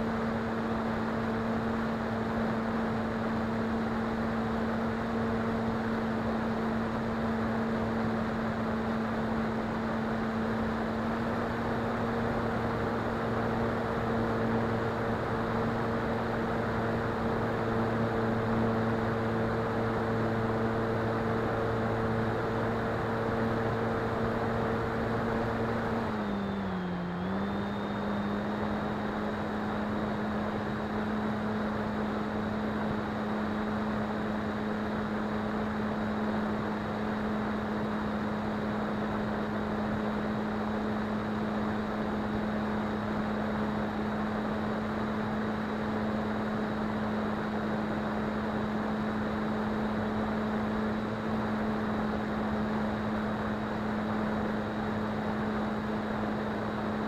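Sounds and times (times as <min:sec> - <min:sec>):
propeller drone: 0:00.0 - 0:57.0.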